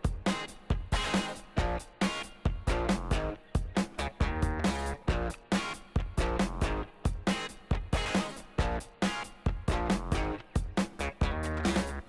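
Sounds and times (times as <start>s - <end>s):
drum machine rhythm: 0.0s - 12.0s
plucked guitar notes: 0.0s - 12.0s.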